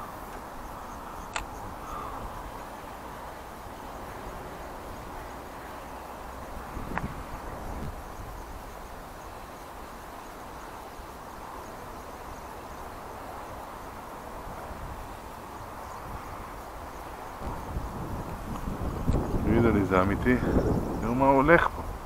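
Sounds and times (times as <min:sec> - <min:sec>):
even hiss: 0:00.0 - 0:22.0.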